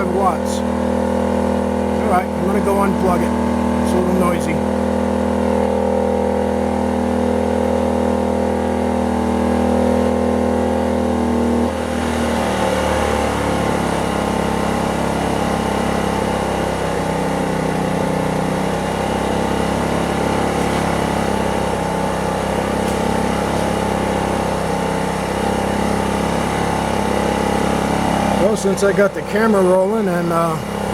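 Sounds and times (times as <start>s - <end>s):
generator running: 0.0s - 30.9s.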